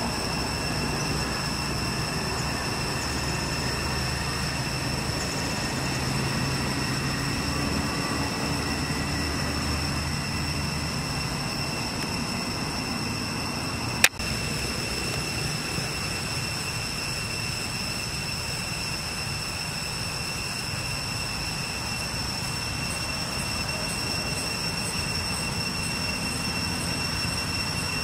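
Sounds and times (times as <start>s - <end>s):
high-pitched whine: 0.0s - 28.0s.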